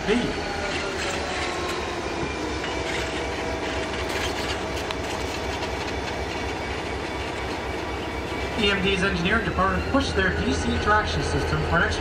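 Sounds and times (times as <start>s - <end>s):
diesel locomotive passing slowly: 0.0s - 12.0s.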